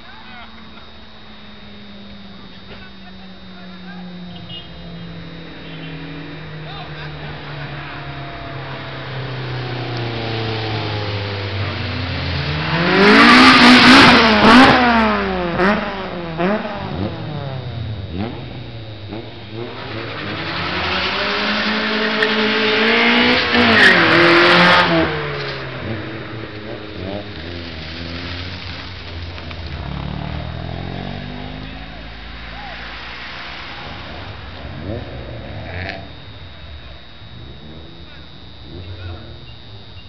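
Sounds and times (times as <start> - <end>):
cars revving and accelerating: 0.0 - 40.0.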